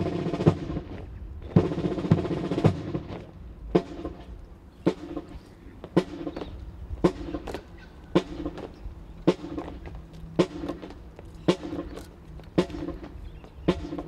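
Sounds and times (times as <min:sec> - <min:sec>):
military marching band playing: 0:00.0 - 0:14.0.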